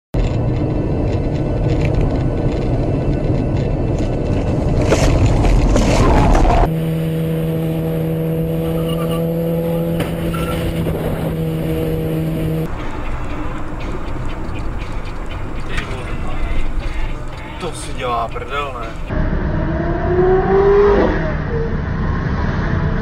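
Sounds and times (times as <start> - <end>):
road and engine rumble: 0.1 - 23.0
engine droning: 0.2 - 23.0.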